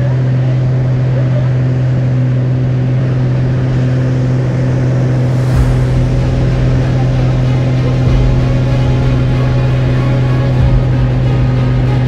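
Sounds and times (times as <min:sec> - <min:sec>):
deep rumble: 0:00.0 - 0:12.0
propeller plane engine drone: 0:00.0 - 0:12.0.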